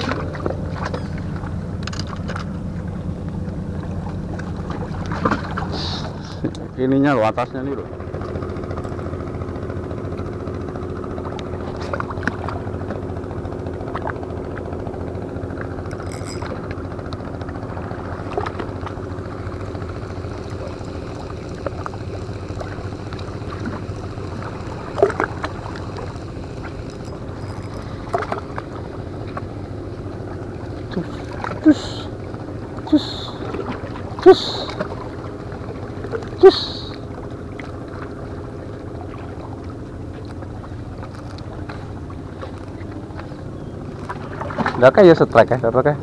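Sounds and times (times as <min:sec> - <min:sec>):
steady engine drone: 0:00.0 - 0:46.0.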